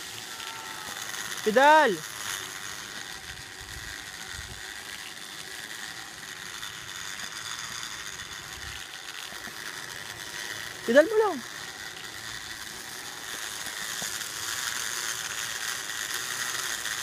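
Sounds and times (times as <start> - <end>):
mechanical whir of pulleys: 0.0 - 17.0.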